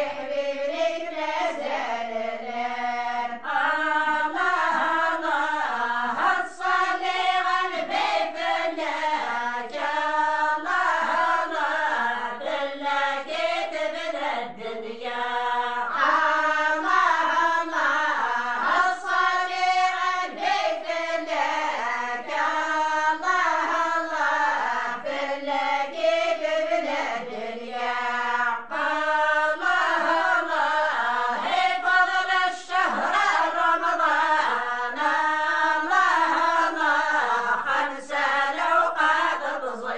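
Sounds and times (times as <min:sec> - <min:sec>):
women singing in chorus: 0:00.0 - 0:39.9.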